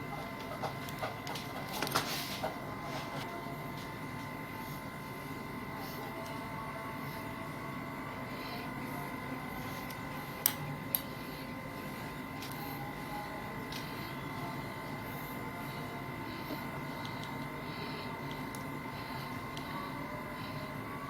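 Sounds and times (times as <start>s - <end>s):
room hum: 0.0s - 21.0s
thin high whine: 1.6s - 21.0s.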